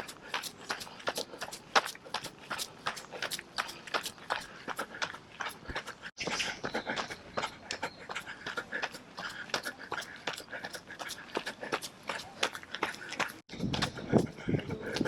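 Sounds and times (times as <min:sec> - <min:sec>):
running footsteps: 0:00.0 - 0:15.0.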